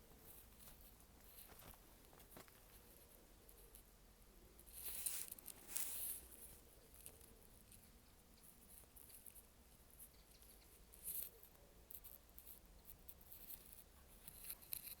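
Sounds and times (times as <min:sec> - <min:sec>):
faint rustles and ticks: 0:00.0 - 0:15.0.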